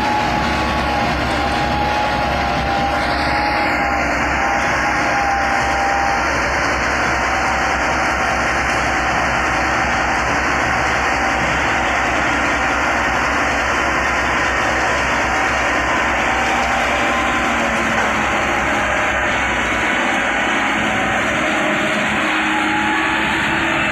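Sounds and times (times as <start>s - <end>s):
tractor diesel engines under load: 0.0s - 23.9s.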